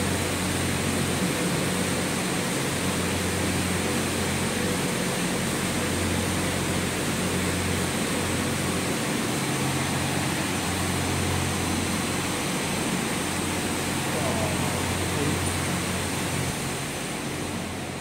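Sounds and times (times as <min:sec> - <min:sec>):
gondola station machinery hum: 0:00.0 - 0:18.0.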